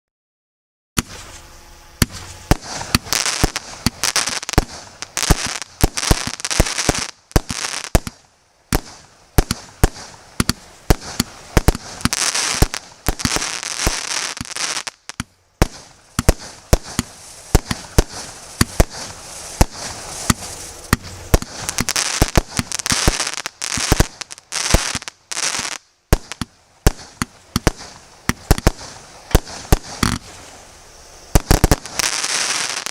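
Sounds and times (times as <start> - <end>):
fireworks bangs: 1.0 - 30.5, 31.2 - 32.9
fireworks hissing: 1.0 - 32.9.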